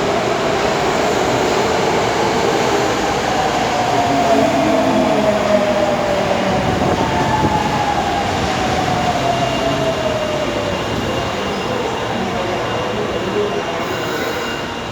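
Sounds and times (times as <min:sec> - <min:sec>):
subway train motor whine: 0:00.0 - 0:14.9
train rumble: 0:00.0 - 0:14.9.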